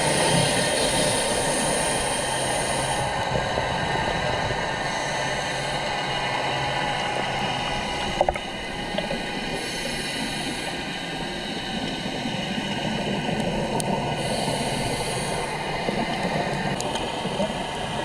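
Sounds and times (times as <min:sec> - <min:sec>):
underwater hiss and hum: 0:00.0 - 0:18.0.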